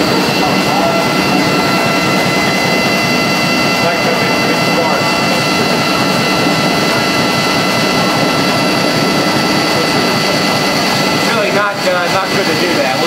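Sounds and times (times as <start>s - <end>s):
generator running: 0.0s - 13.0s
high-pitched whine: 0.0s - 13.0s.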